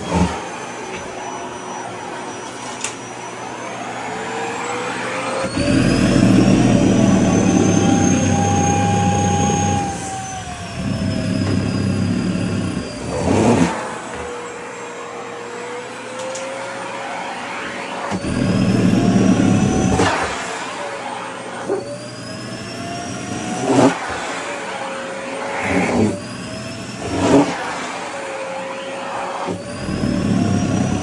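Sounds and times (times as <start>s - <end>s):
vacuum cleaner motor whine: 0.0s - 31.0s.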